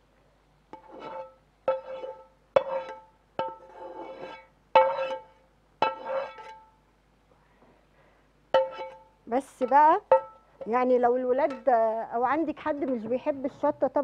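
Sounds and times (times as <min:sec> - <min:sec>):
metal spoon scraping metal pan: 0:00.7 - 0:06.7, 0:08.6 - 0:14.0.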